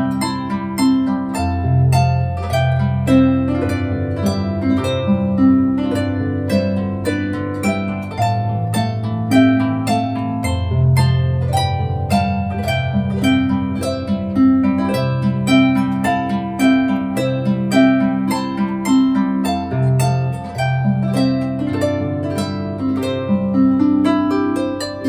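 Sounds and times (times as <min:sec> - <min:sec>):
harp music: 0:00.0 - 0:25.0.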